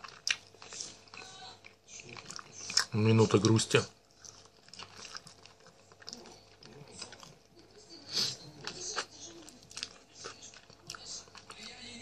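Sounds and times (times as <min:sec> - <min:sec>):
man chewing wetly: 0:00.0 - 0:12.0.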